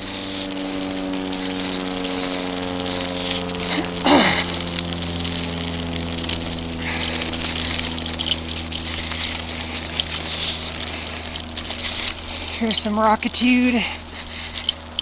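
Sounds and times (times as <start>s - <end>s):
steady low hum: 0.0s - 15.0s
stones and bike clicking: 0.0s - 15.0s.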